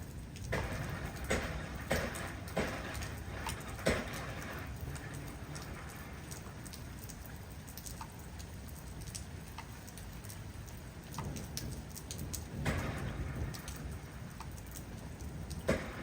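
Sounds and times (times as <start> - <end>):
steady rain: 0.0 - 16.0
drops ticking on hard surface: 0.4 - 16.0.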